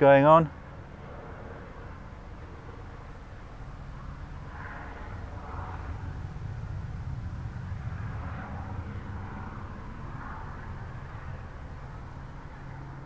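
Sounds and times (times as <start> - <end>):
helicopter drone: 0.0 - 13.0
high whine: 0.0 - 13.0.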